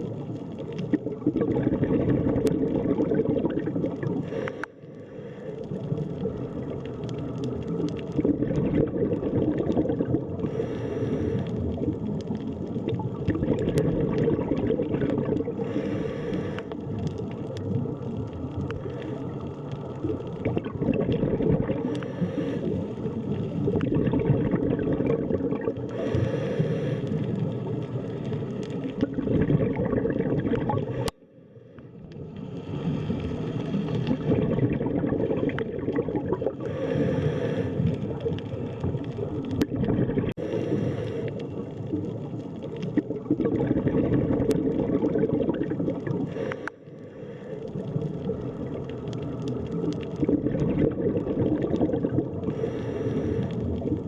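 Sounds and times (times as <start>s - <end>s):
underwater bubbling and gurgling: 0.0s - 54.0s.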